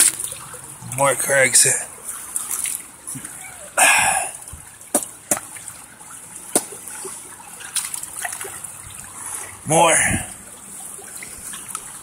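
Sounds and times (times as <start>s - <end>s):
faint water trickle: 0.0s - 12.0s
pond water splashing: 0.0s - 12.0s.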